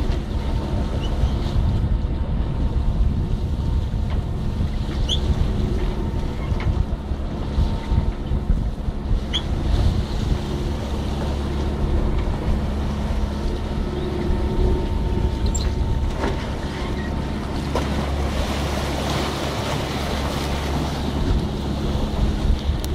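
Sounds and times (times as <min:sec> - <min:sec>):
low hum: 0:00.0 - 0:22.9
sea water splashing along hull: 0:00.0 - 0:22.9
wind buffeting microphone: 0:00.0 - 0:22.9.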